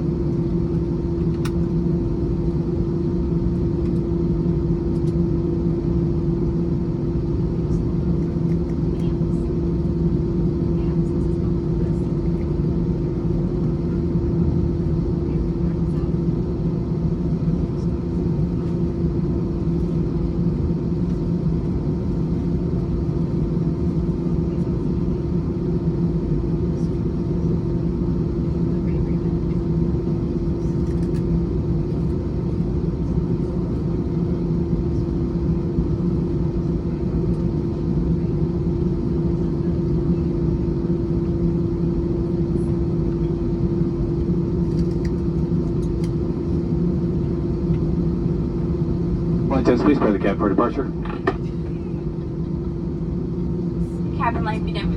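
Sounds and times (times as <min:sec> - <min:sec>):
constant low hum: 0:00.0 - 0:54.9
jet engines running at low power: 0:00.0 - 0:54.9.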